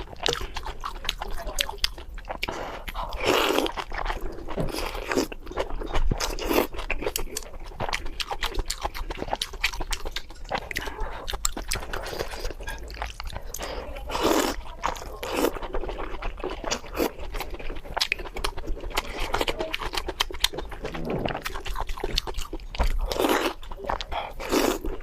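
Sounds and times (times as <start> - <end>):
wet crunching while chewing: 0.0 - 25.0.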